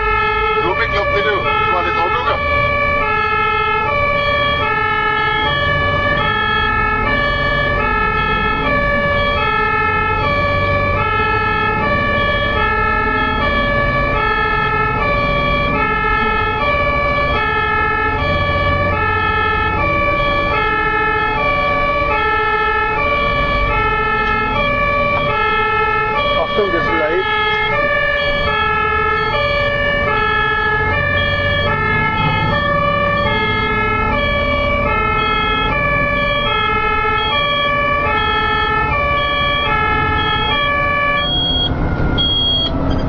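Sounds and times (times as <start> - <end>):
ambulance two-tone siren: 0.0 - 43.0
vehicle engine and road rumble: 0.0 - 43.0.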